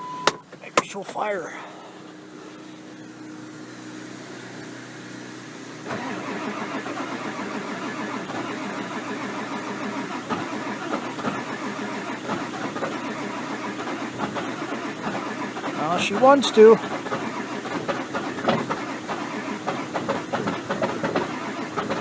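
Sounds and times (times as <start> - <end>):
diesel engine cranking: 0.0 - 22.0.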